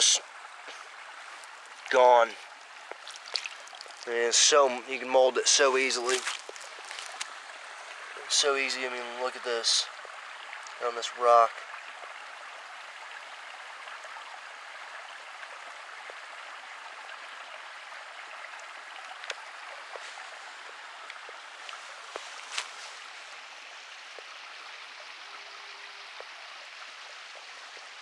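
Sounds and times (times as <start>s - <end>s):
creek running over rocks: 0.0s - 28.0s.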